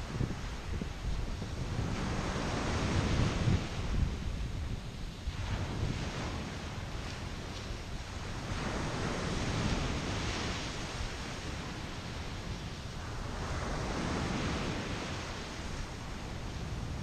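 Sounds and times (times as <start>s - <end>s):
ocean surf on beach: 0.0s - 17.0s
wind rumbling on microphone: 0.0s - 17.0s.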